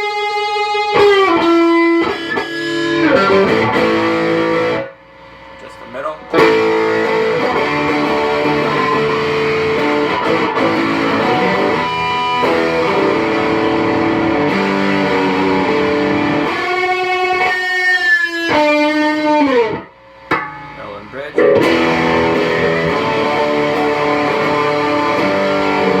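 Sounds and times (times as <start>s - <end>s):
electric guitar chords and notes: 0.0s - 26.0s.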